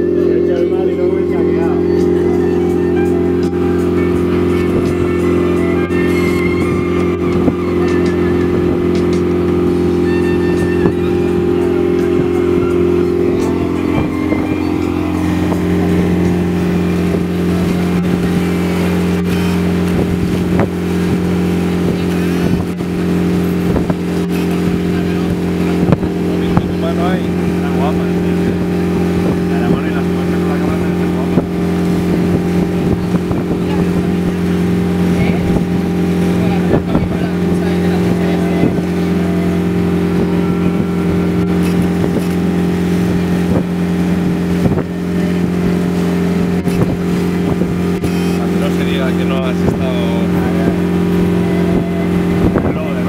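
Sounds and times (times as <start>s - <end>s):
boat engine drone: 0.0s - 53.0s
rush of wake and wind: 0.0s - 53.0s
water churning along hull: 0.0s - 53.0s.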